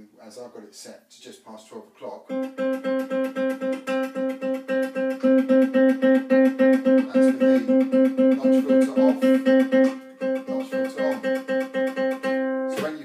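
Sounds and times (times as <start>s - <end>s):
ukulele chord strummed: 2.3s - 13.0s.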